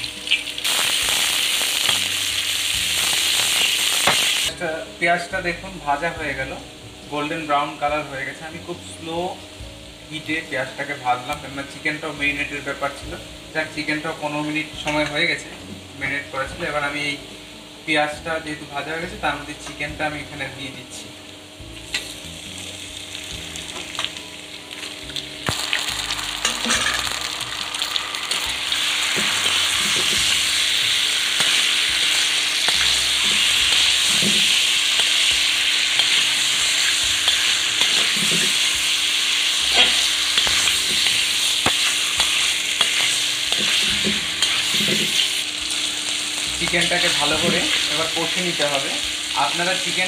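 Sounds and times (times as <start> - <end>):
chicken sizzling in hot oil: 0.0 - 50.0.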